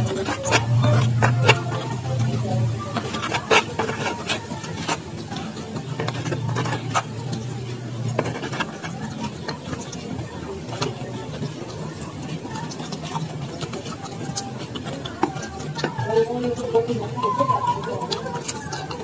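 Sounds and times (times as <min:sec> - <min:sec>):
chewing: 0:00.0 - 0:19.0
fingers scraping a plastic plate: 0:00.0 - 0:19.0
low steady hum: 0:00.0 - 0:19.0.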